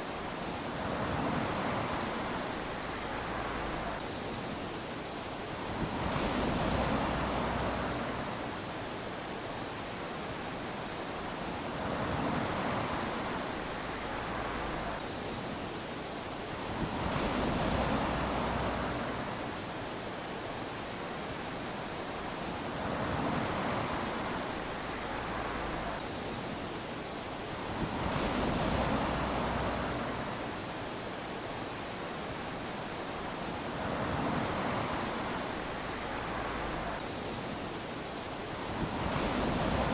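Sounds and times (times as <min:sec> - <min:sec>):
small waves lapping on sand: 0:00.0 - 0:39.9.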